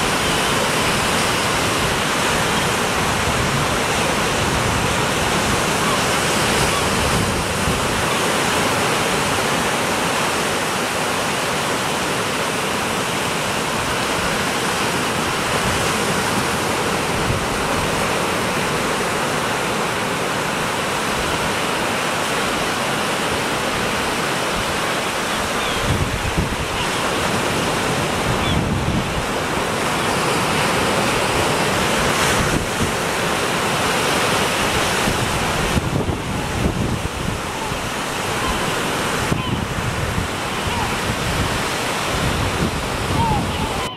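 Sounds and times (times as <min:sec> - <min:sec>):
small waves washing up a beach: 0:00.0 - 0:43.9
wind gusts on microphone: 0:00.0 - 0:43.9.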